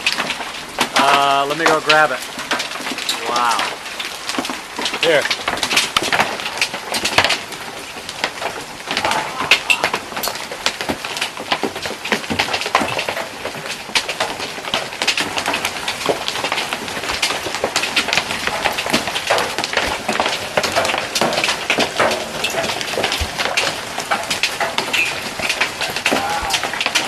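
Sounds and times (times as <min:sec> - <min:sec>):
hailstones clattering: 0:00.0 - 0:27.0
rain hiss: 0:00.0 - 0:27.0.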